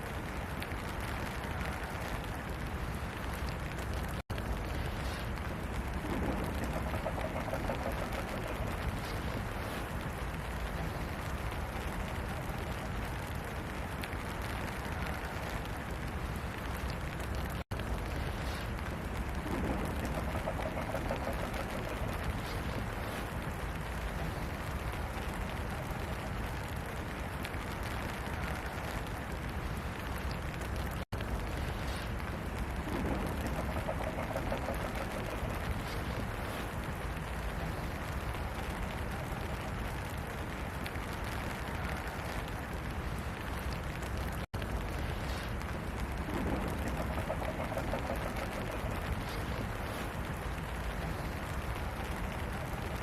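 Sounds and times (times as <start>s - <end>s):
deep low rumble: 0.0s - 53.0s
steady rain hiss: 0.0s - 53.0s.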